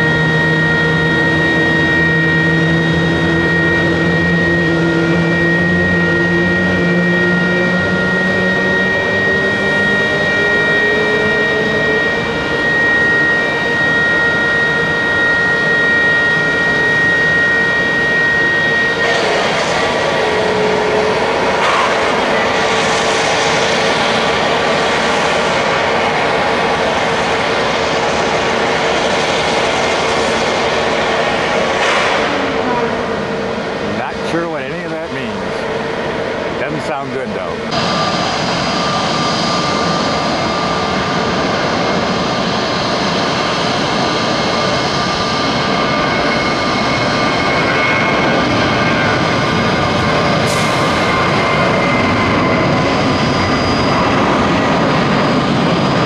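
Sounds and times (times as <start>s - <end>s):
rough rushing engine sound: 0.0s - 13.8s, 16.9s - 56.0s
jet engines whining: 0.0s - 56.0s.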